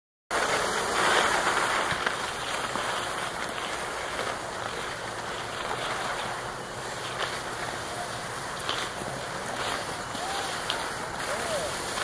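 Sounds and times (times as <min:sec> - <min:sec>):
skis sliding over snow: 0:00.3 - 0:12.0.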